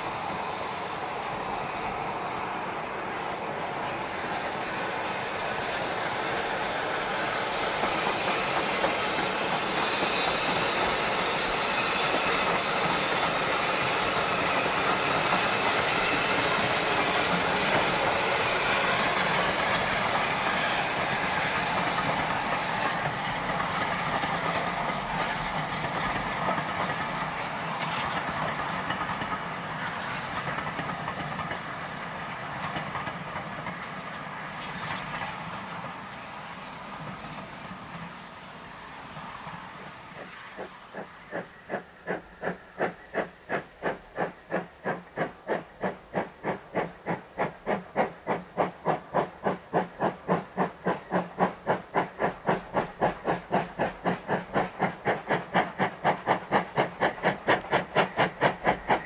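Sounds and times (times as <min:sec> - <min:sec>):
steam locomotive hauling train: 0:00.0 - 0:59.0.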